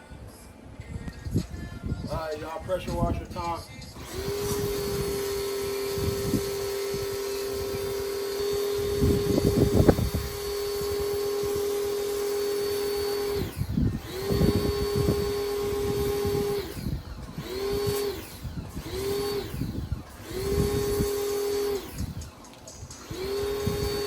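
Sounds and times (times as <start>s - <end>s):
pressure washer motor whining: 1.8s - 24.0s.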